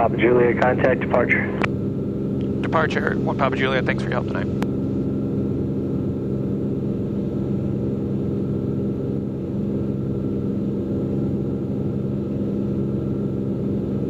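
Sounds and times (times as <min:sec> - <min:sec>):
airplane engine and propeller droning: 0:00.0 - 0:14.0.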